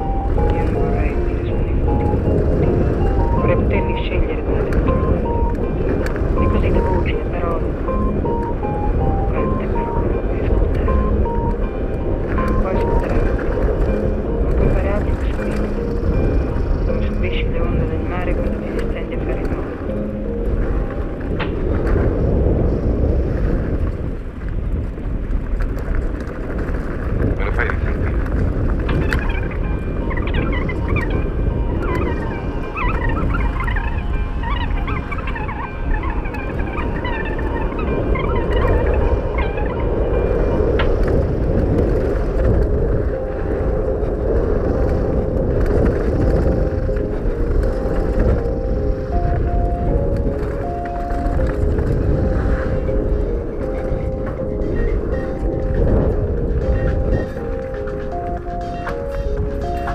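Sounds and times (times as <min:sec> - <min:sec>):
bike tyres rumbling over gravel: 0:00.0 - 0:59.9
wind buffeting microphone: 0:00.0 - 0:59.9.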